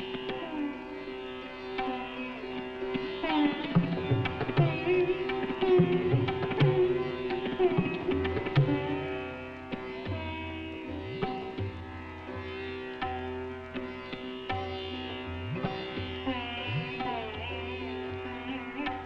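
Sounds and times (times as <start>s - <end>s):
sitar plucking: 0.0s - 19.0s
tabla strokes: 1.4s - 19.0s.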